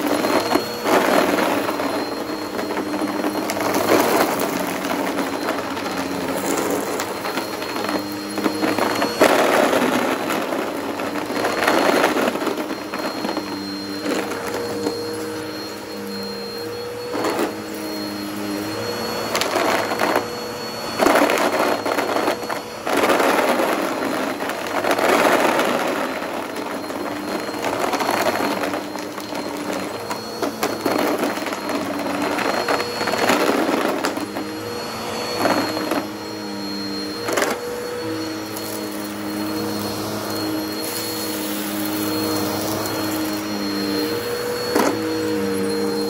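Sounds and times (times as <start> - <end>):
vacuum cleaner motor hum: 0.0 - 46.0.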